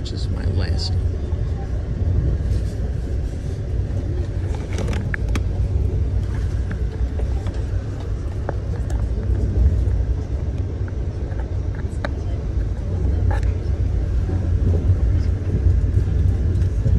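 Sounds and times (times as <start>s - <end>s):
train rumbling from inside: 0.0s - 16.9s.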